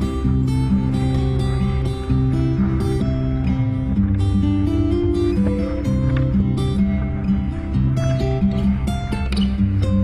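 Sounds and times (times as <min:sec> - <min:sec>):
plucked guitar: 0:00.0 - 0:10.0
steady bass line: 0:00.0 - 0:10.0.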